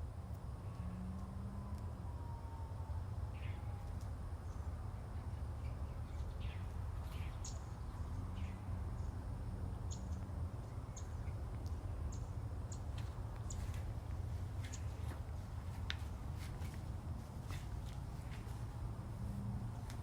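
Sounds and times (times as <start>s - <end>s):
songbirds chirping: 2.8s - 20.0s.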